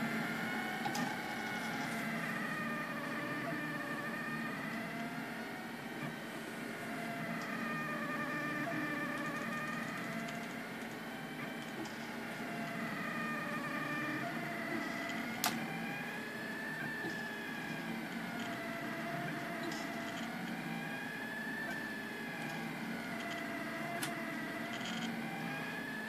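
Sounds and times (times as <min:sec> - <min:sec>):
stepper motors whining: 0:00.0 - 0:26.0.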